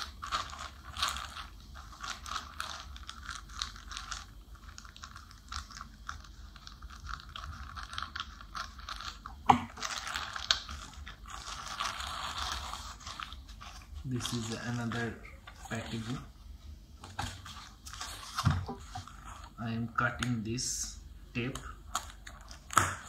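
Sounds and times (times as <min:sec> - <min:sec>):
plastic crinkling: 0:00.0 - 0:16.3, 0:17.0 - 0:19.6, 0:21.4 - 0:23.0.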